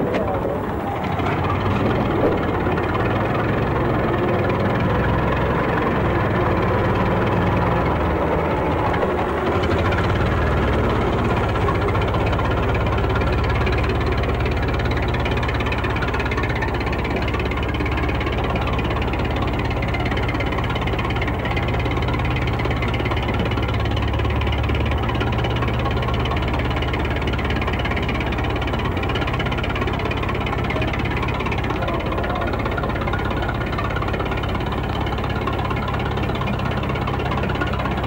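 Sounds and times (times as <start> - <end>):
tractor engine knocking: 0.0 - 38.0.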